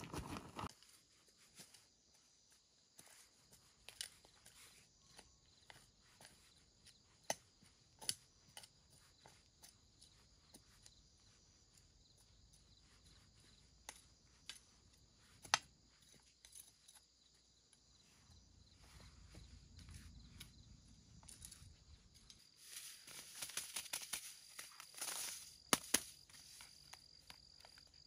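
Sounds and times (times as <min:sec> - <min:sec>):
faint insect chirring: 0:00.7 - 0:28.0.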